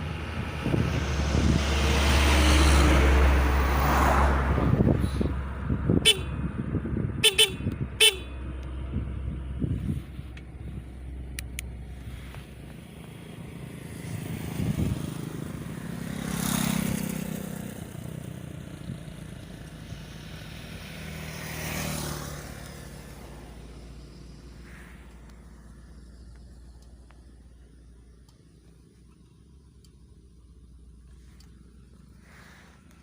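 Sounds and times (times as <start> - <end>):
vehicles passing by: 0.0 - 33.0.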